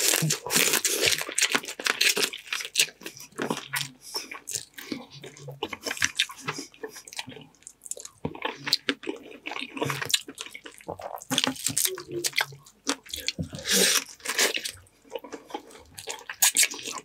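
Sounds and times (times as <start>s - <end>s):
wet chewing and lip smacking: 0.0s - 17.0s.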